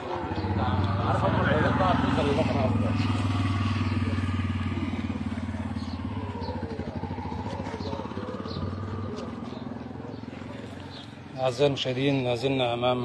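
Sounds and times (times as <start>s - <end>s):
auto-rickshaw engine driving past: 0.0s - 13.0s.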